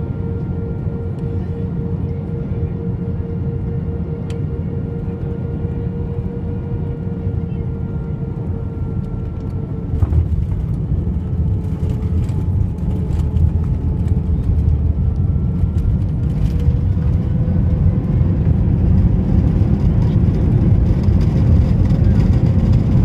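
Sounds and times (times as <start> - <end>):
engines and wheels rumbling: 0.0 - 23.0
faint engine whine: 0.0 - 23.0.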